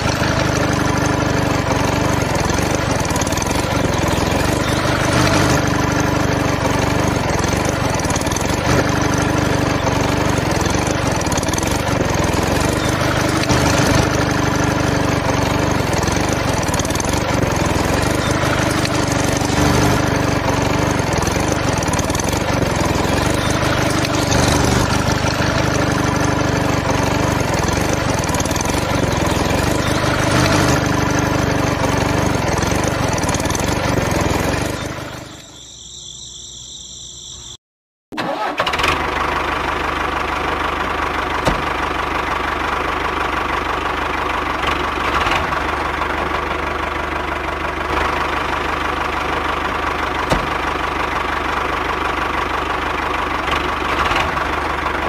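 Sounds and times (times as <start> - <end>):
model engine running: 0.0 - 37.6, 38.2 - 55.0.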